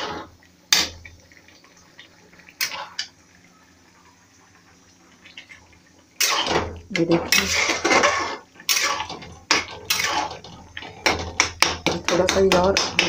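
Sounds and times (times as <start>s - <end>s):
chutney bubbles popping in a pan: 0.0s - 13.0s.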